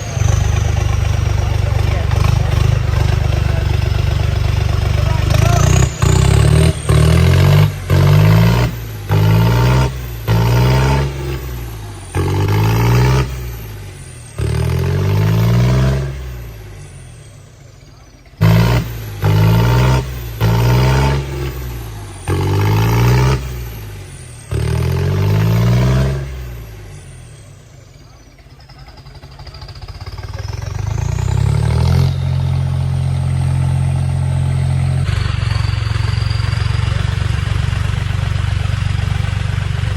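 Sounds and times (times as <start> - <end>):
tractor engine revving: 0.0 - 39.9.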